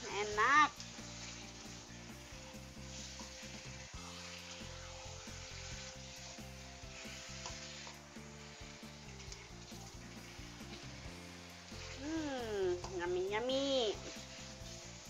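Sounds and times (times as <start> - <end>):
food sizzling in oil: 0.0 - 15.0
utensil stirring in wok: 0.0 - 15.0.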